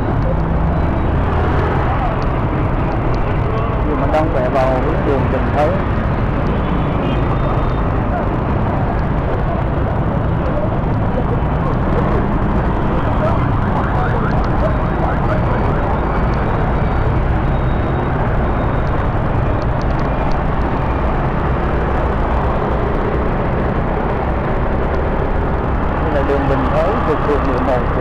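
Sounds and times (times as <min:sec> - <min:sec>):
constant low rumble: 0:00.0 - 0:28.0
motorbike and car traffic: 0:00.0 - 0:28.0.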